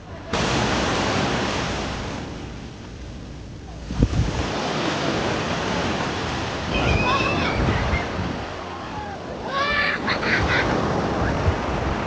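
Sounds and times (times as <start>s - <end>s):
waves washing on sandy shore: 0.0s - 12.0s
wind on microphone: 0.2s - 12.0s.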